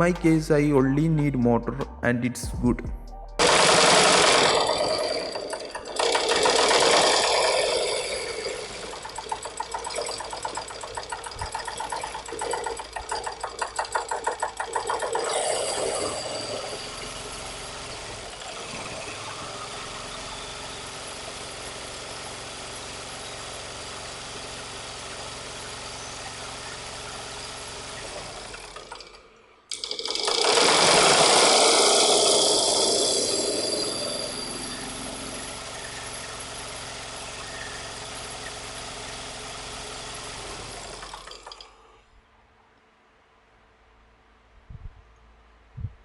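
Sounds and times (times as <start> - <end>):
sewing machine motor: 3.4 - 41.9.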